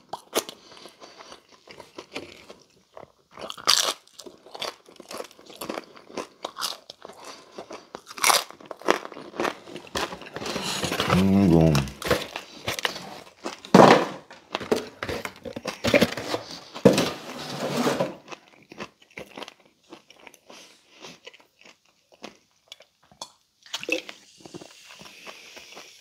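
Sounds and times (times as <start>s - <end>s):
crunchy chewing: 0.0s - 13.7s, 18.2s - 26.0s.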